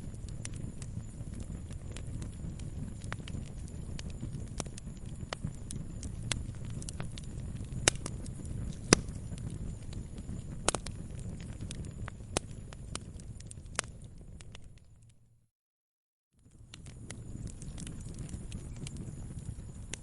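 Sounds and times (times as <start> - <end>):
fire crackling: 0.0 - 15.2, 16.4 - 20.0
fire pops: 0.0 - 15.2, 16.5 - 20.0.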